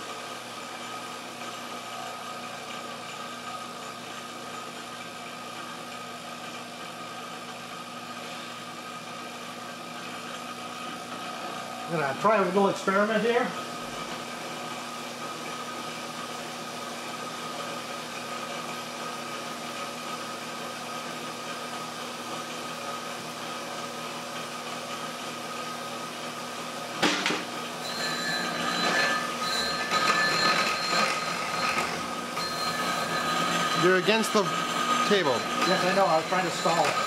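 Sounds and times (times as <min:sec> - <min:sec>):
electric motor hum and whine: 0:00.0 - 0:37.0.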